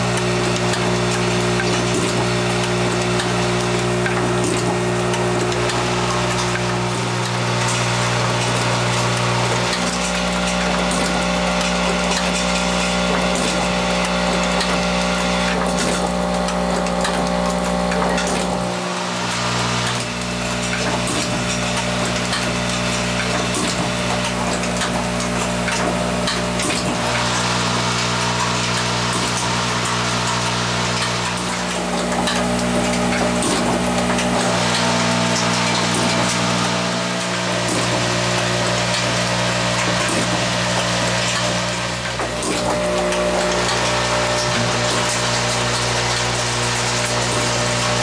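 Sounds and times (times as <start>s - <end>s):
machine low hum: 0.0s - 48.0s
pneumatic clicks and clatter: 0.0s - 48.0s.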